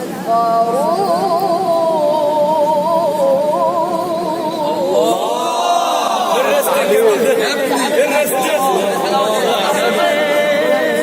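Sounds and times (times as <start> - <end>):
boy reciting melodically: 0.0 - 11.0.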